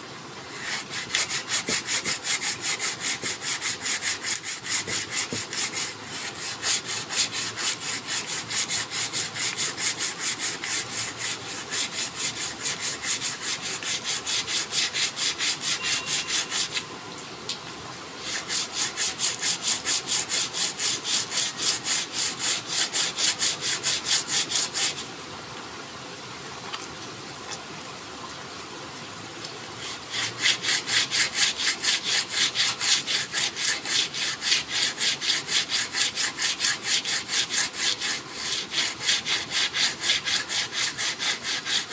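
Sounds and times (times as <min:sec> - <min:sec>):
sandpaper rasping on wood: 0:00.5 - 0:16.8, 0:18.2 - 0:25.1, 0:29.8 - 0:41.9.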